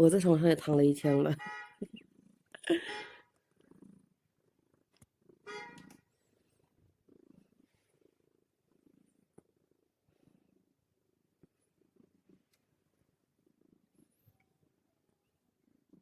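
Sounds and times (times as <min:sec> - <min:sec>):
cat purring: 0:01.9 - 0:16.0.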